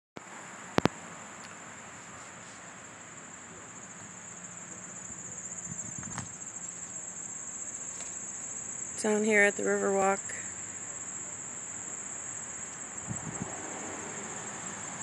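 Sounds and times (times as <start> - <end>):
crickets trilling: 0.2 - 15.0
soft background hiss: 0.2 - 15.0.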